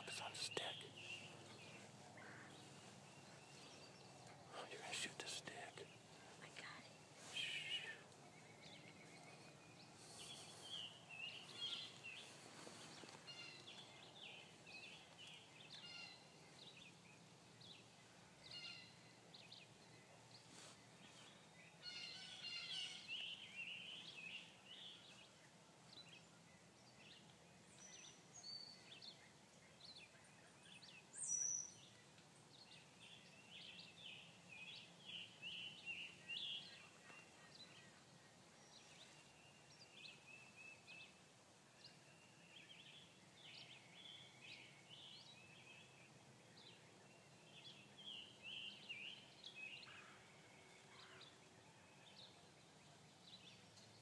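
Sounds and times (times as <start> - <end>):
songbird chirps and song: 0.0 - 54.0.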